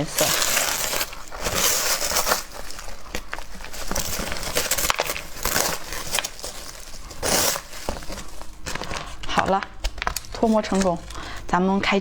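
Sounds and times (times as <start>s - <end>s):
mold crinkling as it is peeled: 0.0s - 12.0s.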